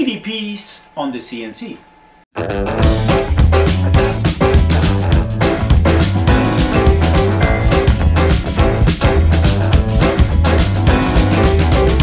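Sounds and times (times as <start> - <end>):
intro music with steady beat: 2.4 - 12.0.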